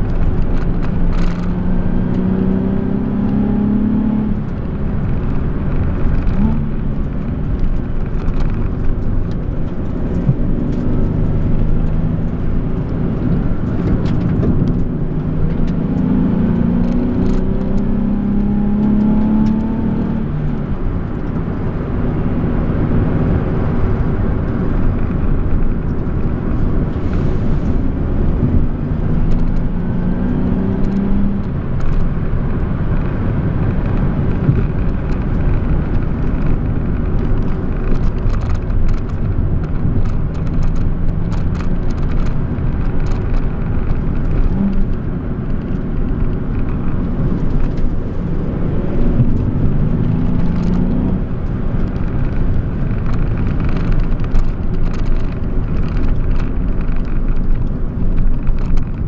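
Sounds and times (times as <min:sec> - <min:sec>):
road noise inside car: 0:00.0 - 0:59.0.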